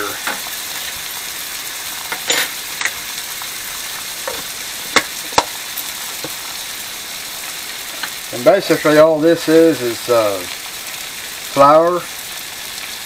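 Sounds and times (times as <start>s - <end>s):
mushrooms sizzling in a skillet: 0.0s - 13.0s.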